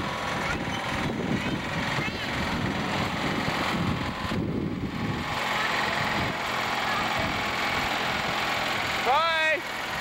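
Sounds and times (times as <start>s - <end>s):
rough rumbling noise: 0.0s - 10.0s
small tractor engine running: 0.0s - 10.0s.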